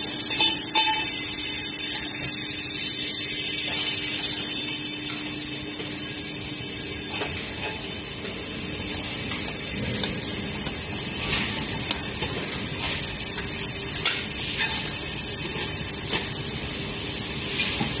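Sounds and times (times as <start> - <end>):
factory noise hiss: 0.0 - 18.0.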